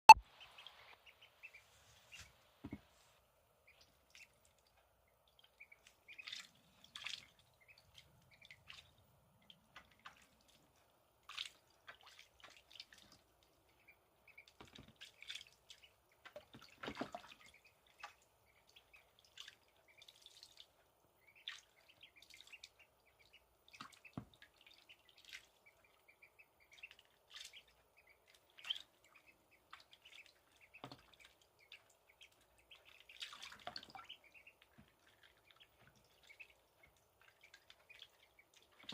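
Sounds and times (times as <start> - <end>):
ducklings splashing in water: 0.1 - 38.9.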